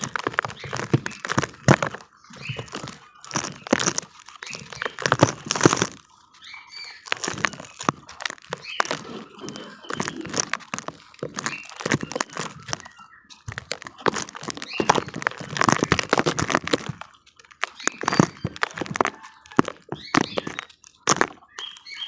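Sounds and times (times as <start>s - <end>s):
damp cement crumbling: 0.0s - 22.0s.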